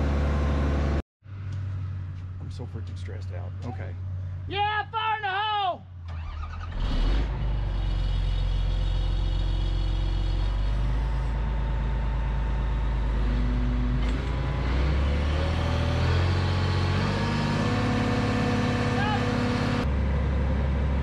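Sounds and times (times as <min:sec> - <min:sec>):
diesel engine running: 0:00.0 - 0:04.5, 0:06.0 - 0:21.0.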